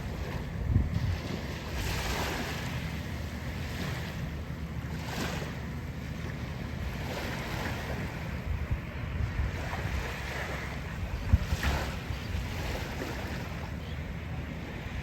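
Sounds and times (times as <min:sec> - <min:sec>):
surf washing onto shore: 0:00.0 - 0:15.0
wind rumbling on microphone: 0:00.0 - 0:15.0.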